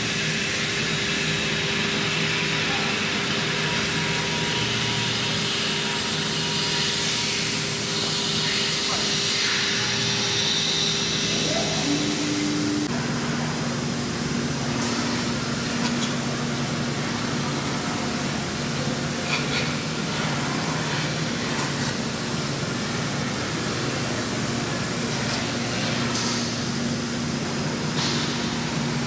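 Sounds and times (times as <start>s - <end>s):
cnc machine humming: 0.0s - 29.0s.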